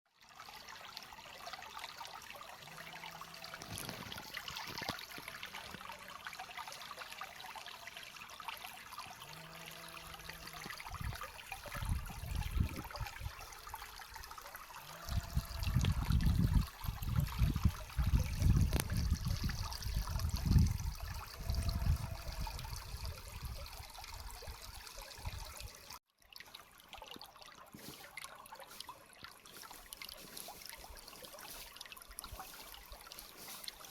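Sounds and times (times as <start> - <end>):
running water: 0.1 - 33.9.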